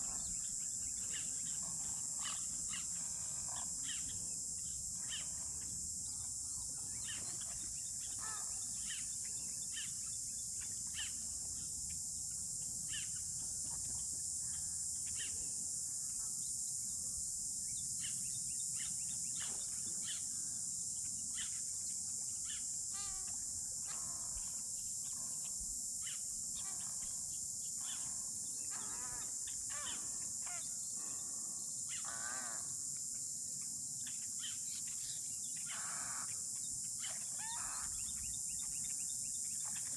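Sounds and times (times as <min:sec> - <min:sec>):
warbling bird calls: 0:00.0 - 0:12.0, 0:18.0 - 0:33.0, 0:34.0 - 0:39.9
insects droning: 0:00.0 - 0:39.9.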